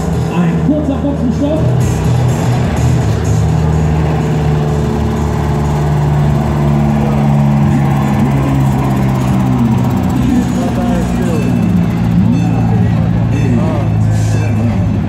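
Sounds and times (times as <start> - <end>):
truck engines running at low revs: 0.0 - 15.0.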